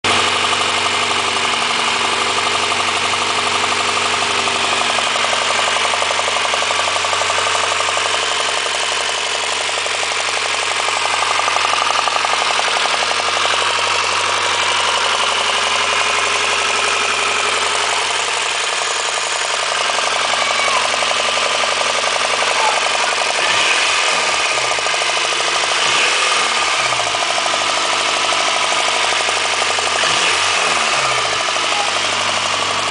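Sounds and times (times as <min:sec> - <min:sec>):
car engine idling with knock: 0:00.0 - 0:32.9
engine revving: 0:00.0 - 0:32.9.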